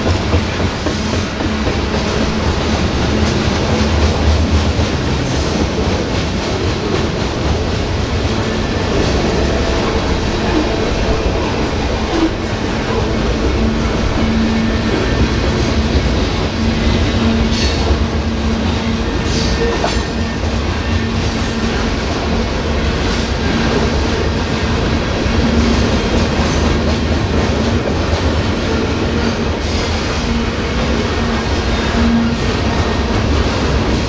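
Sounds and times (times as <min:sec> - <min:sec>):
freight train wheels clacking: 0:00.0 - 0:34.0.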